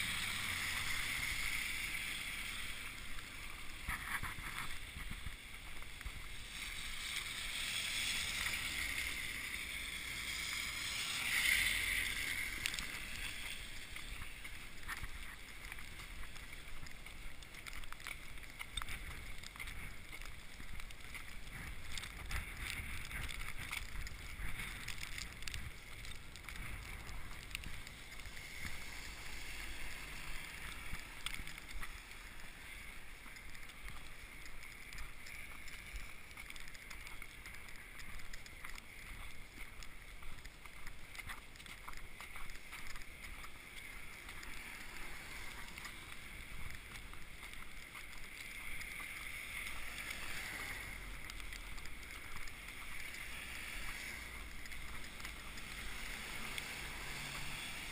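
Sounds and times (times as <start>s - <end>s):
footsteps crunching through snow: 0.0s - 57.9s.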